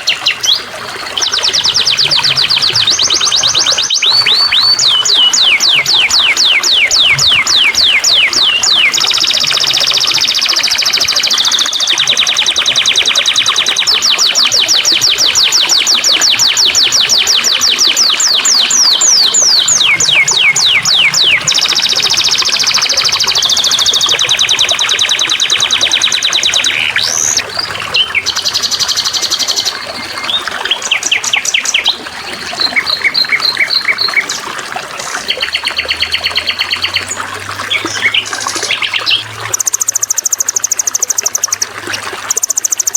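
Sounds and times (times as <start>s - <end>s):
songbirds singing trills: 0.0s - 42.9s
water trickling: 0.0s - 42.9s.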